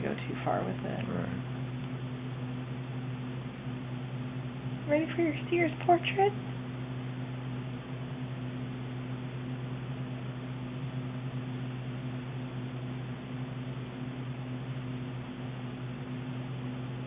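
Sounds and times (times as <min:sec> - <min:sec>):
low constant hum: 0:00.0 - 0:17.0.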